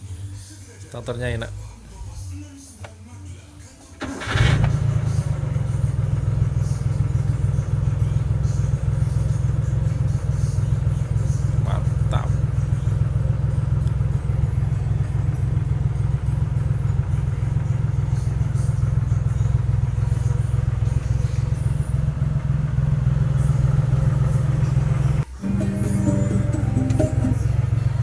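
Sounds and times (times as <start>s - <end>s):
car engine idling: 4.0s - 28.0s.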